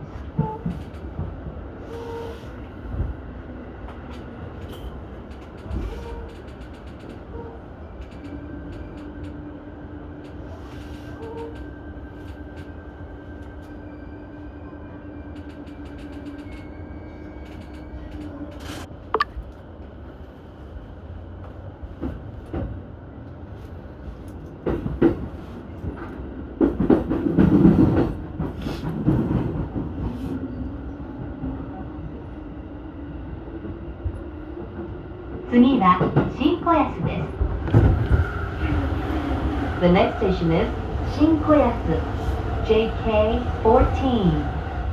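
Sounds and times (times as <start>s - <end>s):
electric train running rumble: 0.0s - 44.9s.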